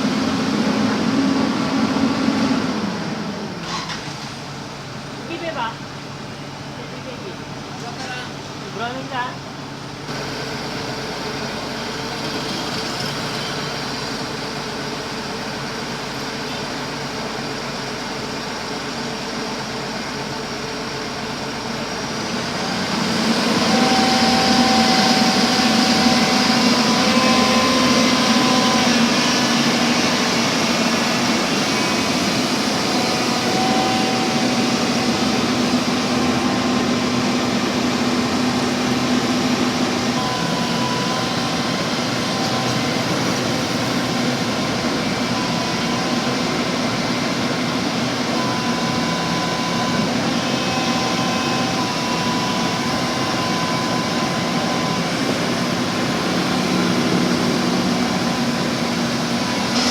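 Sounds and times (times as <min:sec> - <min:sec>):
diesel engine running: 0:00.0 - 0:59.9
steady whine: 0:05.2 - 0:59.9.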